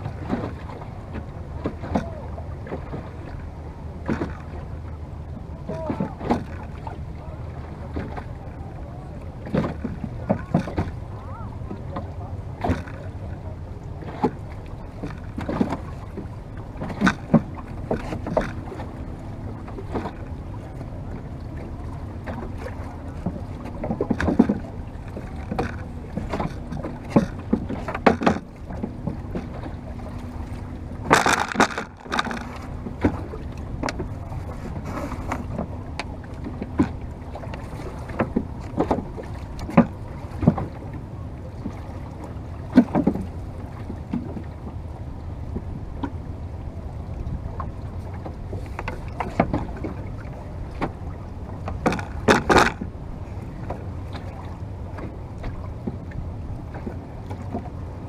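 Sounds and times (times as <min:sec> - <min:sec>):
rush of wind and water: 0:00.0 - 0:58.0
water slapping against boat: 0:00.0 - 0:58.0.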